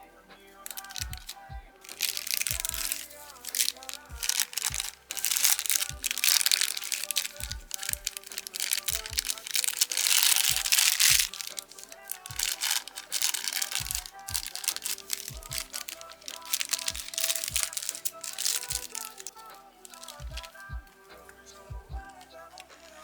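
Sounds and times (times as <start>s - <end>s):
background music with steady beat: 0.0s - 23.0s
packaging crinkling and rustling: 0.6s - 23.0s.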